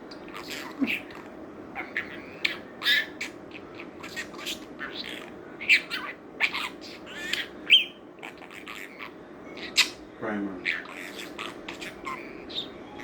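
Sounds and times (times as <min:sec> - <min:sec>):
budgerigar chattering: 0:00.1 - 0:10.0, 0:10.6 - 0:13.0.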